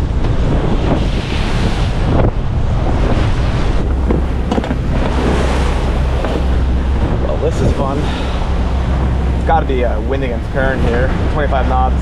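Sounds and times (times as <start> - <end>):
strong wind on microphone: 0.0 - 12.0
waves splashing against hull: 0.0 - 12.0.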